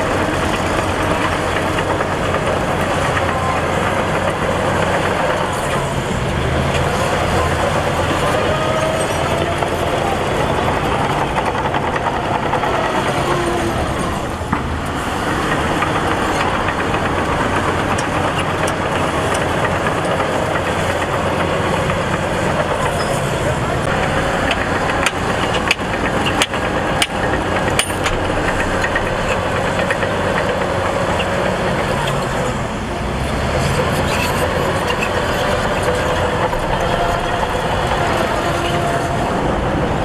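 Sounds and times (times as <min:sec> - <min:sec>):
diesel machinery running under load: 0:00.0 - 0:40.0.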